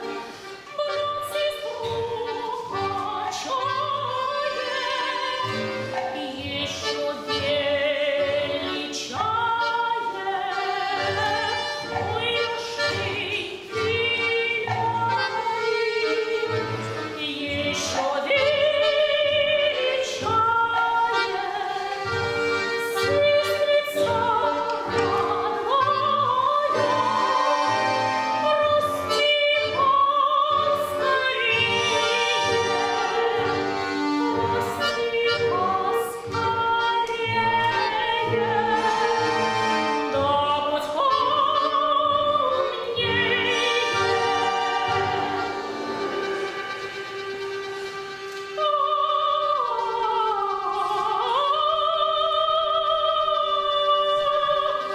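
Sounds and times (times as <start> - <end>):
accordions playing sustained chords: 0.0 - 54.9
woman singing operatically: 0.7 - 46.5, 48.6 - 54.9.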